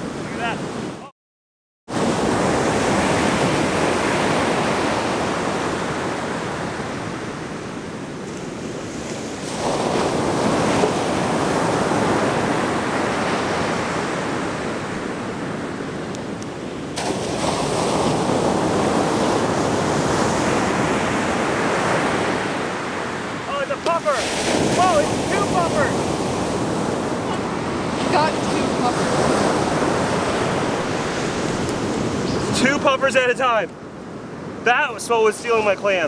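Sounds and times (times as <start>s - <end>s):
waves washing on beach: 0.0s - 1.1s, 1.9s - 36.0s
wave crashing: 1.9s - 33.7s, 34.5s - 36.0s.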